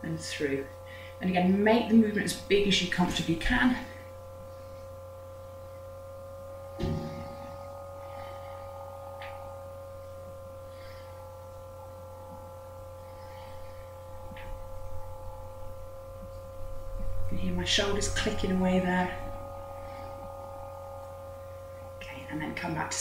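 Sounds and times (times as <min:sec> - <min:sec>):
electrical hum with high whine: 0:00.0 - 0:23.0.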